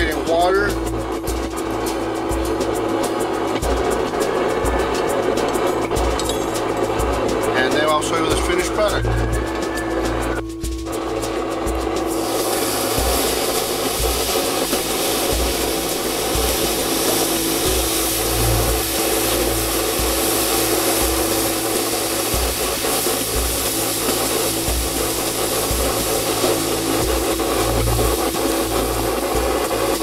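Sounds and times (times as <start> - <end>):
hot metal sizzling in water: 0.0 - 30.0.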